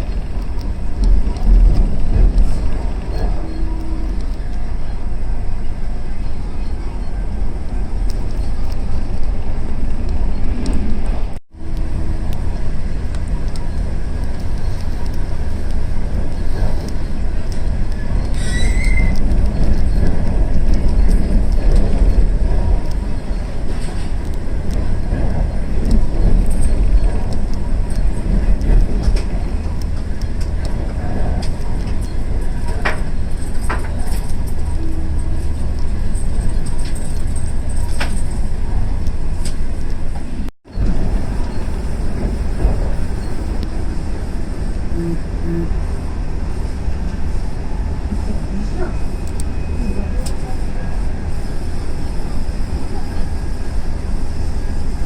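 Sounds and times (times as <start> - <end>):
train rumbling on track: 0.0 - 55.0.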